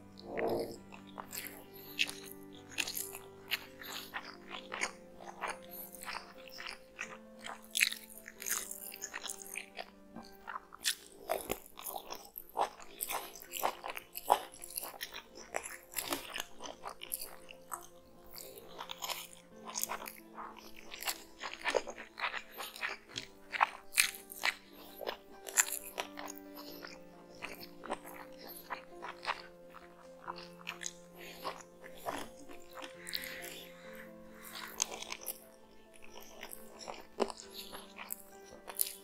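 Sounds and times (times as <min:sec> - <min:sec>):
chewing and lip-smacking: 0:00.0 - 0:39.0
soft background music: 0:00.0 - 0:39.0.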